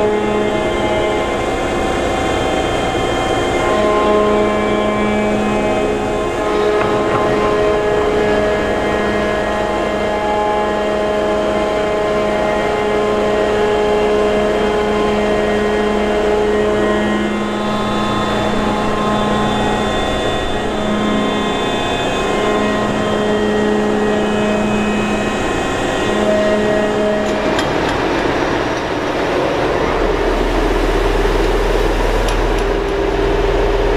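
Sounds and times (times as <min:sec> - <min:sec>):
ship machinery drone: 0:00.0 - 0:33.9.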